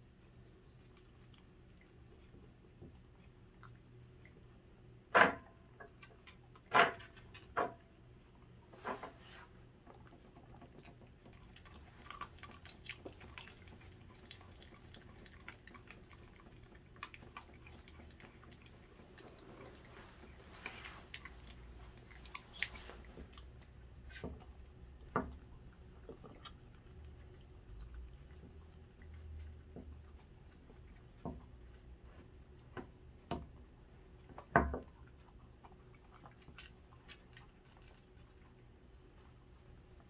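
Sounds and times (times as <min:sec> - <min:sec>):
dog chewing raw chicken: 0:00.0 - 0:40.0.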